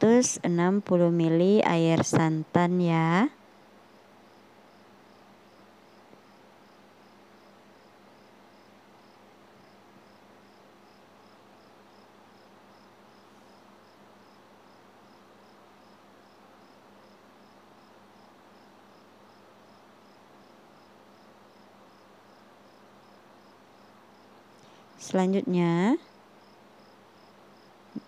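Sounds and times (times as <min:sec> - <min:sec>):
faint background hiss: 0:00.0 - 0:28.0.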